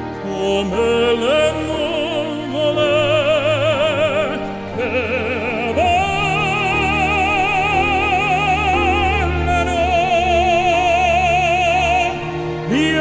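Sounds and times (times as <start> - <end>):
operatic singing: 0.0 - 13.0
sustained accompaniment: 0.0 - 13.0.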